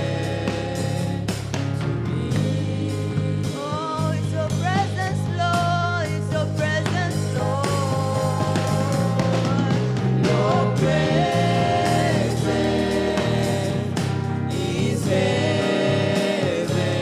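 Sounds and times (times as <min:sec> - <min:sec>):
band playing: 0:00.0 - 0:17.0
voices singing gospel music: 0:00.0 - 0:17.0.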